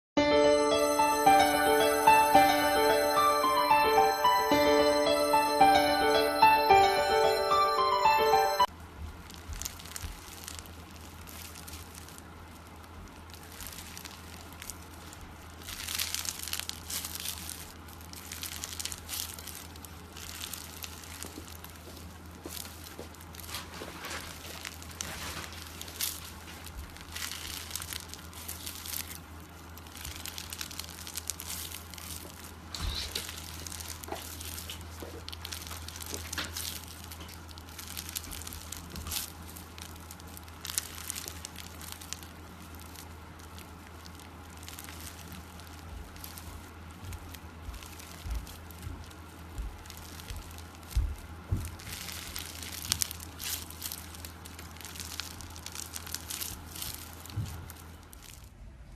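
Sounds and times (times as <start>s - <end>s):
crinkling handling noises: 9.2s - 58.5s.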